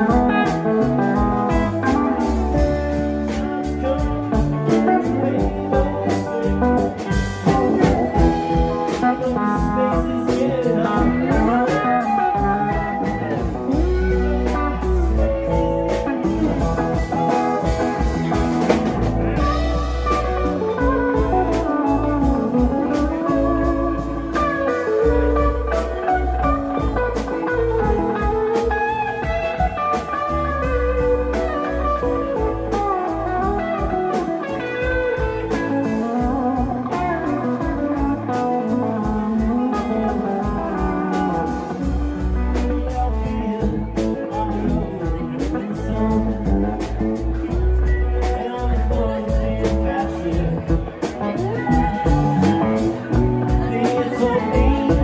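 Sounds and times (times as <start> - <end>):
drums: 0.0 - 55.0
electric guitar bending notes: 0.0 - 55.0
keyboards: 0.0 - 55.0.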